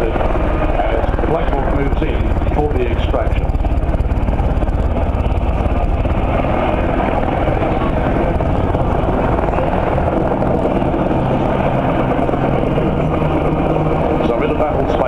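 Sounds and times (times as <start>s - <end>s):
helicopter rotor beating: 0.0s - 15.0s
loud turbine noise: 0.0s - 15.0s.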